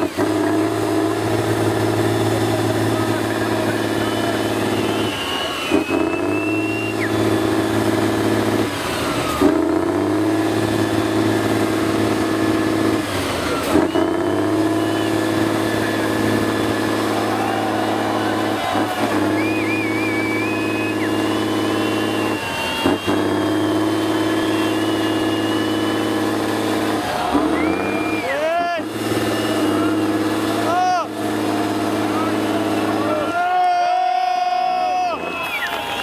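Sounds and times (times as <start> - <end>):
truck engine running hard: 0.0 - 36.0.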